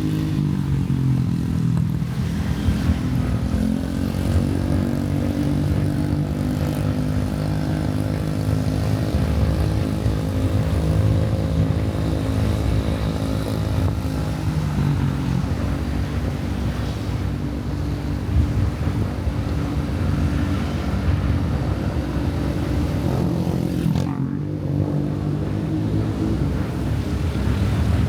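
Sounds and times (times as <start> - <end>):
motorcycle engine running: 0.0 - 28.0
road and wind noise: 0.0 - 28.0.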